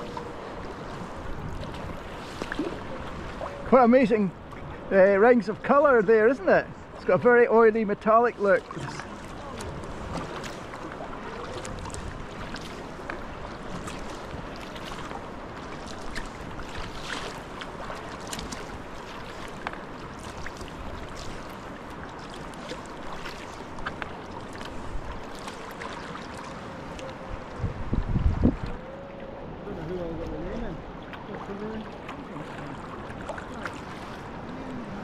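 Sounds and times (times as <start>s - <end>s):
drips and small splashes: 0.0s - 29.2s, 29.8s - 34.9s
paddle blades dipping in water: 0.0s - 35.0s
water washing along hull: 0.0s - 35.0s.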